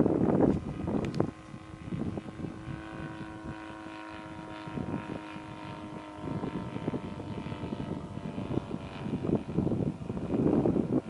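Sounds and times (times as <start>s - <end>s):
model aircraft engine droning: 0.0s - 11.0s
wind on microphone: 0.0s - 11.0s.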